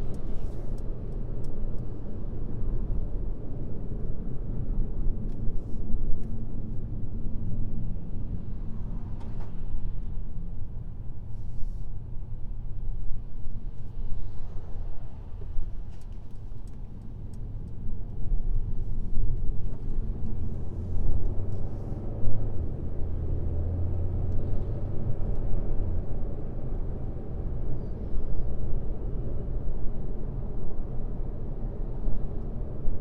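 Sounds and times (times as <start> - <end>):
road and tyre noise: 0.0 - 33.0.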